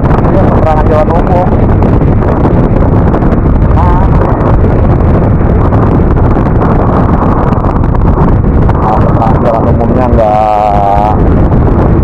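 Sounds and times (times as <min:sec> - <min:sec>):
road noise: 0:00.0 - 0:12.0
wind rush on microphone: 0:00.0 - 0:12.0.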